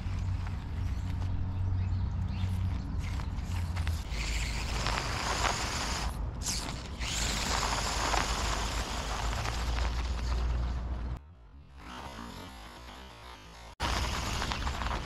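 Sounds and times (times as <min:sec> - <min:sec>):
electric motor and gears whirring: 0:00.0 - 0:15.0.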